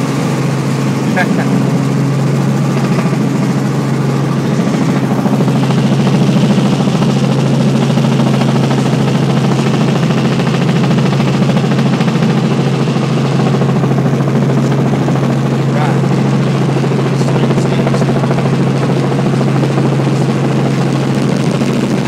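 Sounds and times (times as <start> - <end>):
helicopter engine and rotors: 0.0 - 22.0.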